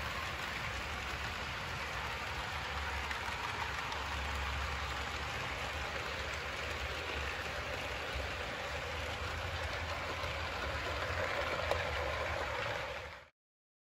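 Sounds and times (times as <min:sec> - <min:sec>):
model train wheels rumbling on rails: 0:00.0 - 0:13.3.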